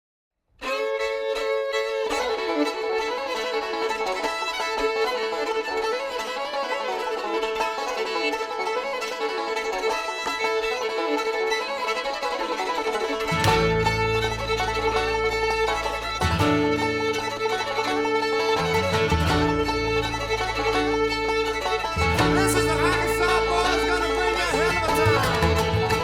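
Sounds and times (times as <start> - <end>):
string band with fiddle and banjo: 0.6 - 26.0.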